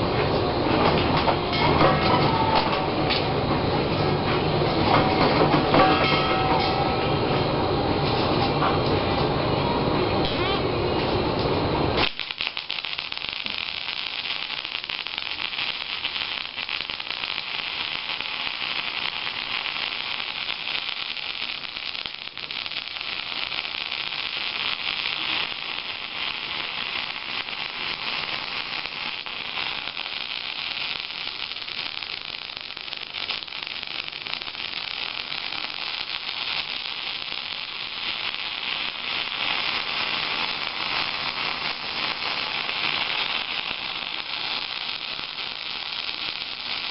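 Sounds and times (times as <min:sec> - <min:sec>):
welding arc hissing: 0:00.0 - 0:46.9.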